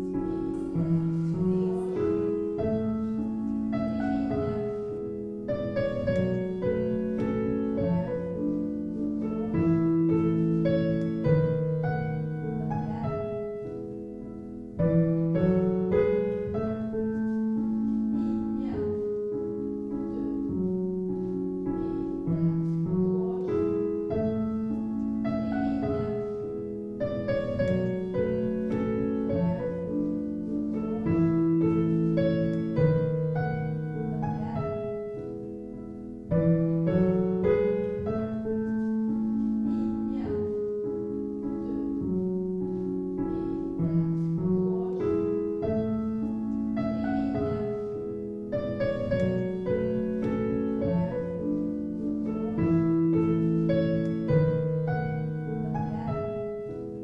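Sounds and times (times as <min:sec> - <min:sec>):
classical piano music: 0:00.0 - 0:57.0.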